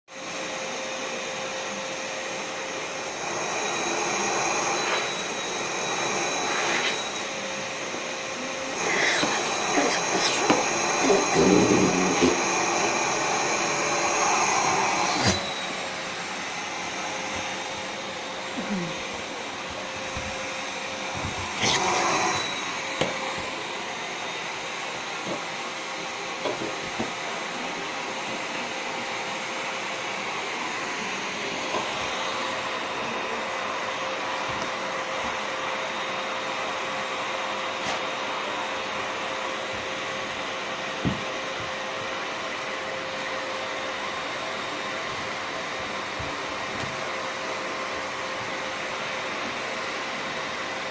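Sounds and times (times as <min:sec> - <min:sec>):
vacuum cleaner running: 0:00.1 - 0:50.9.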